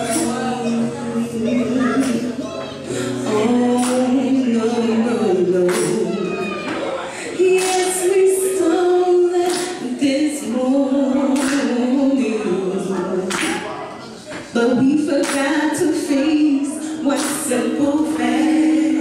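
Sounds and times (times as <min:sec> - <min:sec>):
woman singing into a microphone: 0:00.0 - 0:13.8, 0:14.4 - 0:19.0.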